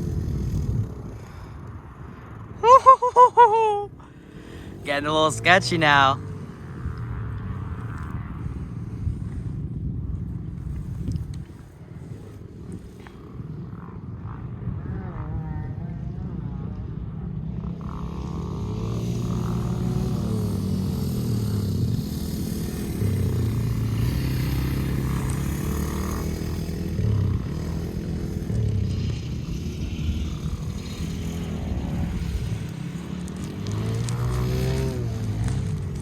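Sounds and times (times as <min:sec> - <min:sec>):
dirt bike engine revving: 0:00.0 - 0:09.5, 0:12.3 - 0:36.0.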